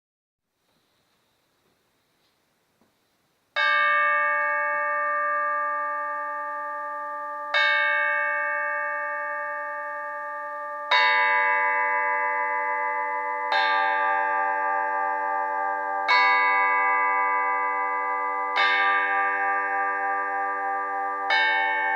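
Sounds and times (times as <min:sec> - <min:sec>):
flat metal bells ringing: 0:03.6 - 0:21.9.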